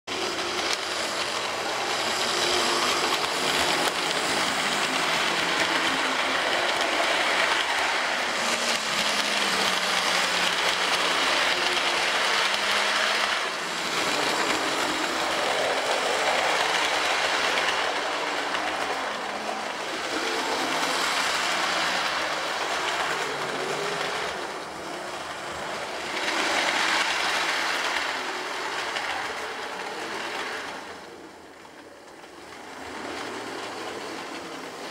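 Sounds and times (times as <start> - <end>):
model train wheels rolling on rails: 0.1 - 34.9.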